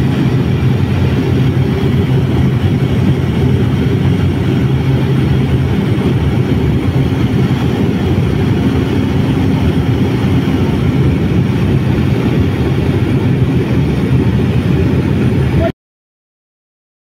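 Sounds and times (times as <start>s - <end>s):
aircraft engine drone in cabin: 0.0s - 15.7s.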